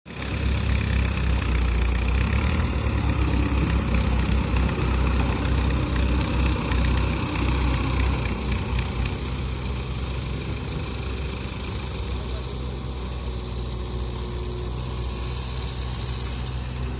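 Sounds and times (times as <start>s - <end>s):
tractor diesel engine running: 0.1s - 16.9s.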